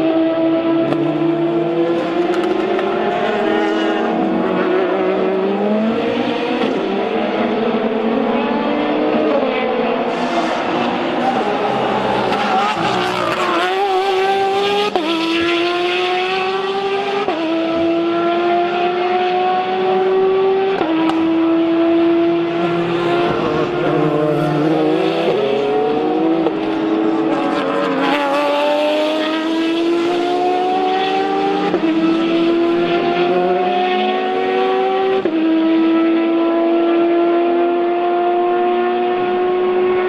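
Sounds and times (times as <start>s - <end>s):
race car engines accelerating: 0.0s - 40.0s.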